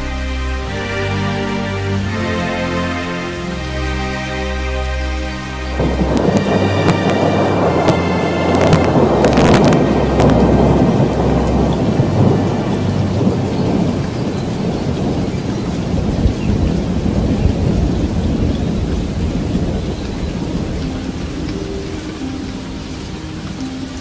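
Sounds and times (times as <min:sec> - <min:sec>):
steady rain: 0:00.0 - 0:24.0
thunder rumbling: 0:04.8 - 0:24.0.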